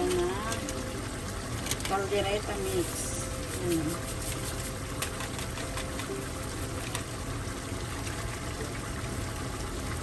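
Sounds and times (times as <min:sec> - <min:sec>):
broth bubbling in pan: 0:00.0 - 0:10.0.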